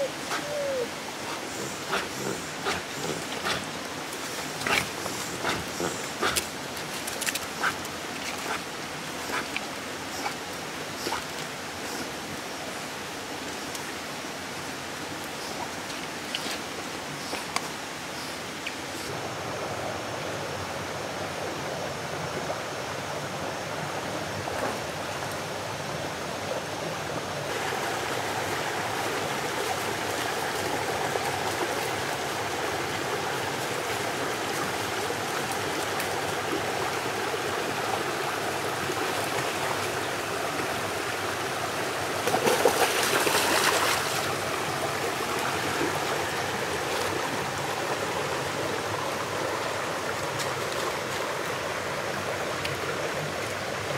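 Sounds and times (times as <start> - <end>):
stream water flowing: 0.0 - 53.9.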